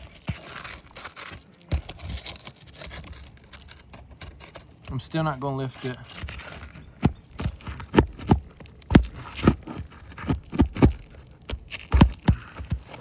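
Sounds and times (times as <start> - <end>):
knocks and scrapes on shingle roof: 0.0 - 13.0.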